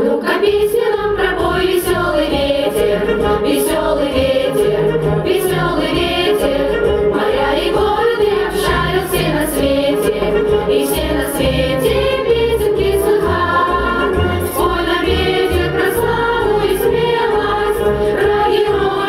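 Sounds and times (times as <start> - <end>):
children singing together: 0.0 - 19.0
accompaniment with steady beat: 0.7 - 19.0.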